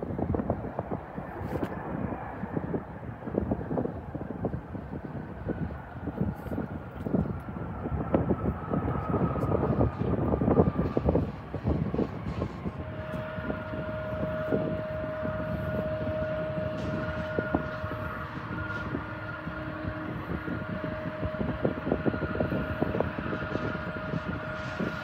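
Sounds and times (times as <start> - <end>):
jet engines whining: 0.0 - 25.0
low rumble: 0.0 - 25.0.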